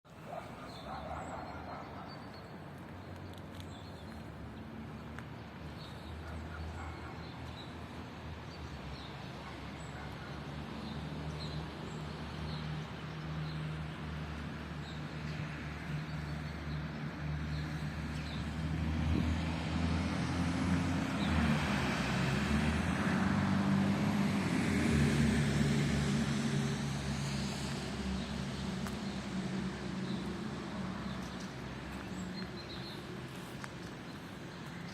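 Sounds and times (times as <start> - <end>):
traffic rumble: 0.1 - 34.9.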